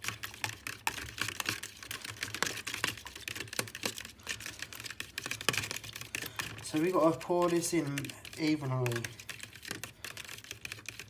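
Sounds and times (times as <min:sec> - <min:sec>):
fork beating eggs in bowl: 0:00.0 - 0:11.0.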